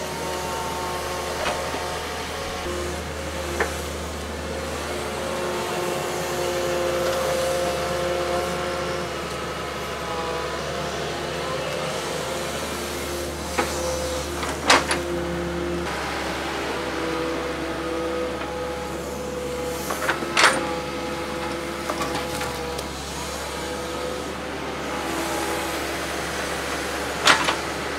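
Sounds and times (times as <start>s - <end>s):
diesel engine running under load: 0.0s - 27.9s.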